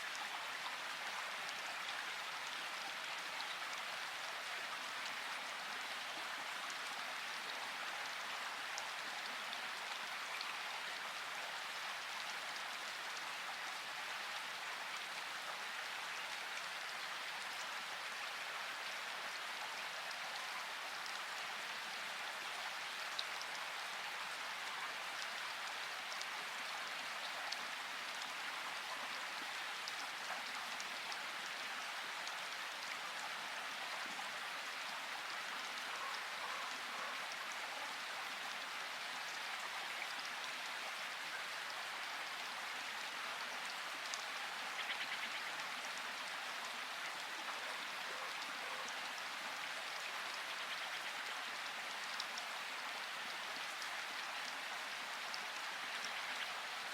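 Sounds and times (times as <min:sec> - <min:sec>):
steady rainfall: 0:00.0 - 0:56.9.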